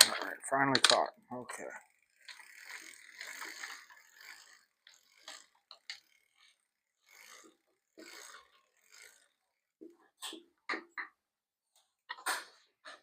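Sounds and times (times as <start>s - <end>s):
freewheel pawls ratcheting: 0.0s - 10.9s
bicycle drivetrain clicking: 0.0s - 11.0s.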